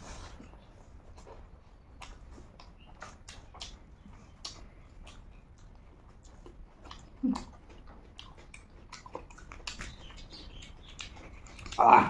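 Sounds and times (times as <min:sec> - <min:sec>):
wet chewing: 0:00.0 - 0:12.0
lip smacking clicks: 0:01.2 - 0:12.0.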